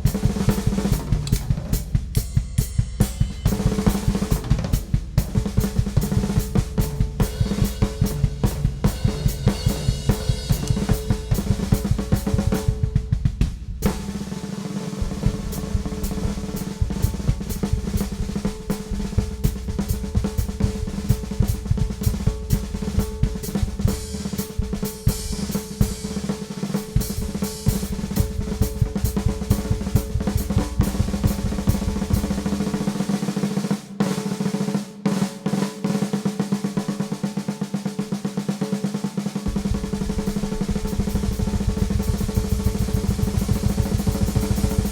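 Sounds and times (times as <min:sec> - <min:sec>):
bass drum: 0:00.0 - 0:14.4, 0:15.0 - 0:33.0, 0:39.5 - 0:44.9
snare drum rolls: 0:00.0 - 0:44.9.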